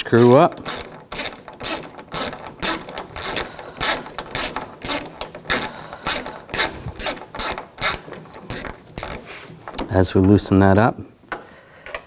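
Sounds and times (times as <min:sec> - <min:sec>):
ratchet pawl clicking: 0:00.0 - 0:09.9.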